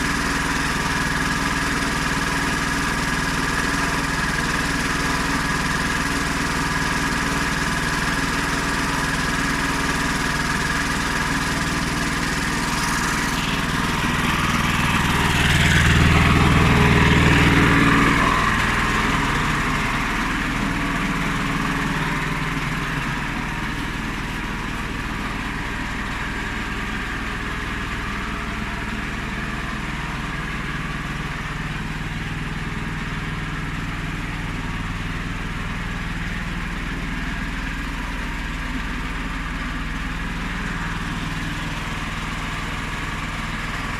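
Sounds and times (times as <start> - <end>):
petrol engine running steadily: 0.0 - 43.9.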